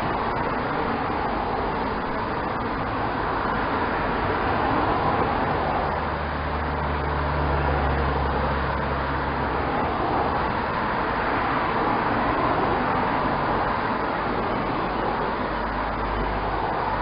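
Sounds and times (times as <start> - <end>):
cars passing by: 0.0 - 17.0
low engine hum: 0.0 - 17.0.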